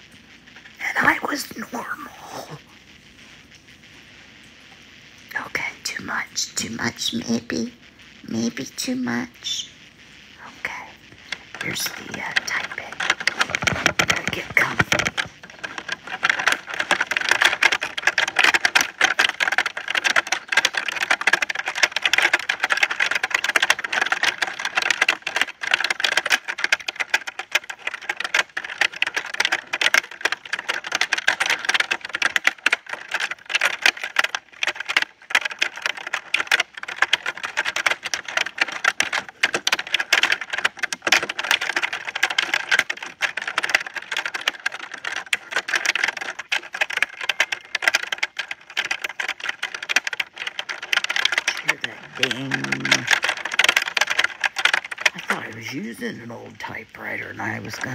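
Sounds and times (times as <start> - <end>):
fast typing on a keyboard: 10.7 - 57.9.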